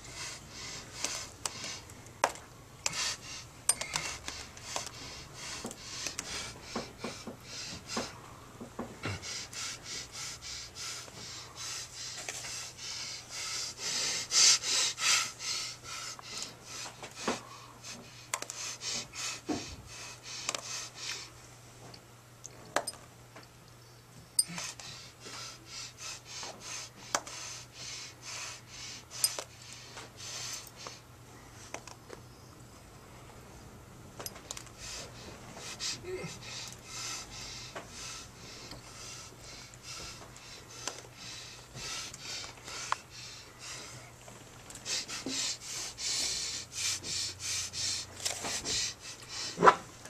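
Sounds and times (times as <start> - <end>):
man breathing hard: 0.0 - 21.4, 24.4 - 31.8, 34.3 - 49.9
steady low hum: 0.0 - 50.0.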